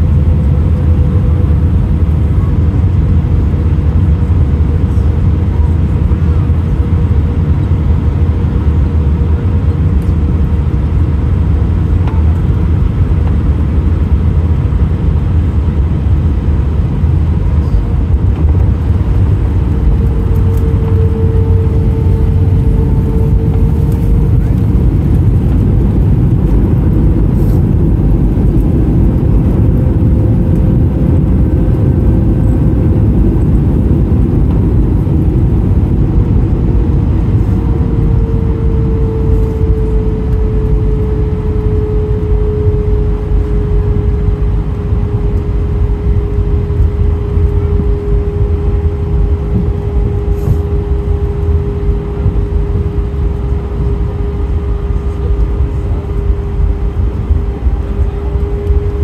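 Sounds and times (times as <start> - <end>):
aircraft engines and wheels rumbling: 0.0 - 59.0
jet engine whine: 0.0 - 59.0.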